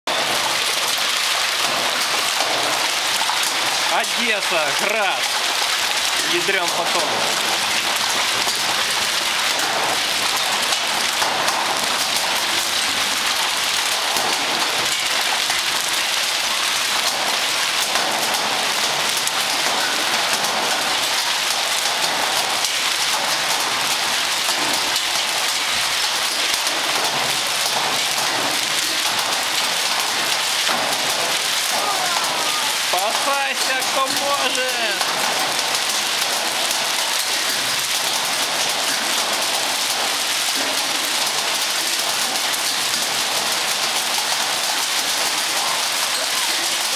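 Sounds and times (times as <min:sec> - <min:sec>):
hail and heavy rain on concrete: 0:00.1 - 0:46.9.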